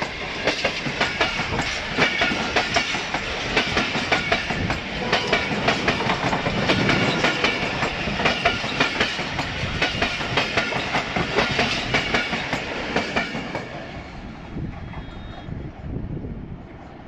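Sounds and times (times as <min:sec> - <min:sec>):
train wheels clicking over rail joints: 0:00.0 - 0:13.9.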